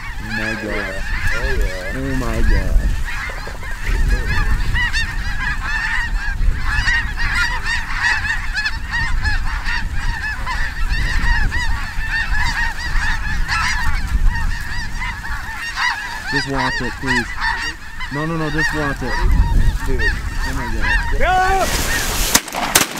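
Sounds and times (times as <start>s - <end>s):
geese honking: 0.0s - 22.9s
low wind rumble: 0.0s - 22.9s.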